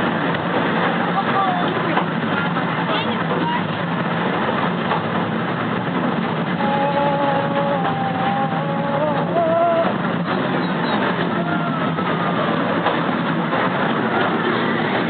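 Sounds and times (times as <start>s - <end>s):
roller coaster rumble and rattle: 0.0s - 15.0s.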